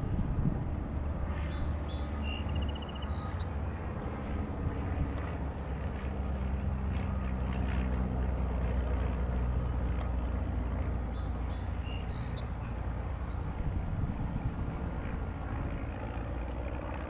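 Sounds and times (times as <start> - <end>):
radial aircraft engines droning: 0.0 - 17.0.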